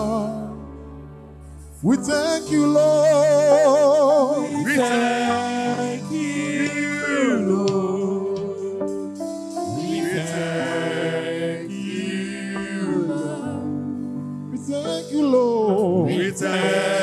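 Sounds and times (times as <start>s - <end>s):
gospel choir singing: 0.0s - 1.0s, 1.7s - 17.0s
instrumental accompaniment chords: 0.0s - 17.0s.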